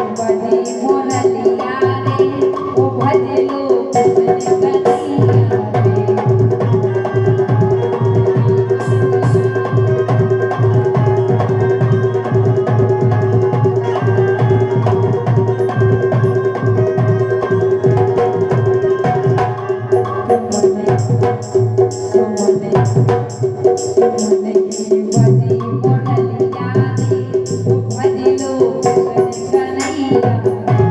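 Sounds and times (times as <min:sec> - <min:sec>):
fast hand drumming: 0:00.0 - 0:30.9
held melody note: 0:03.9 - 0:30.9.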